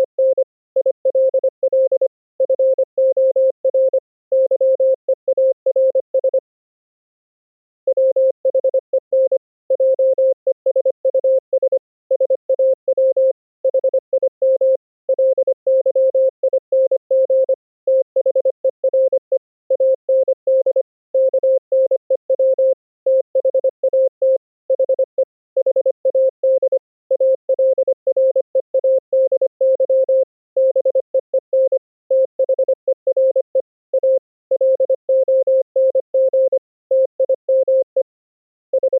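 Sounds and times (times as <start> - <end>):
morse code tone: 0.0 - 6.4, 7.9 - 38.1.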